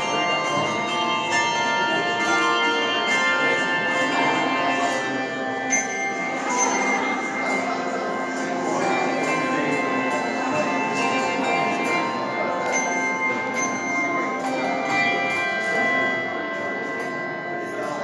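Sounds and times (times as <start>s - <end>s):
handbell choir playing: 0.0s - 18.0s.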